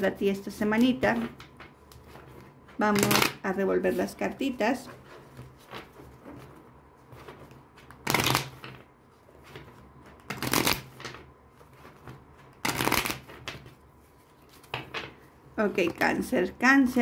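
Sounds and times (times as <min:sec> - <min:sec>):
playing cards shuffling: 0:00.7 - 0:14.9.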